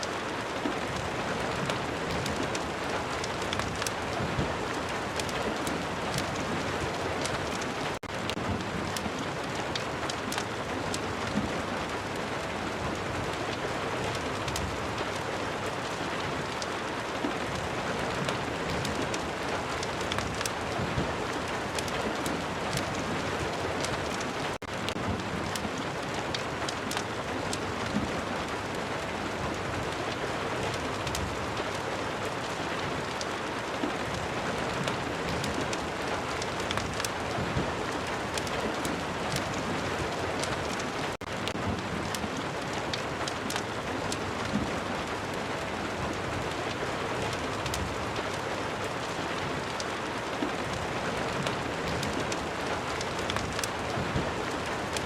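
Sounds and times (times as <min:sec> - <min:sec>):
small sharp crackles: 0:00.0 - 0:12.4, 0:13.0 - 0:55.0
steady rain: 0:00.0 - 0:55.0.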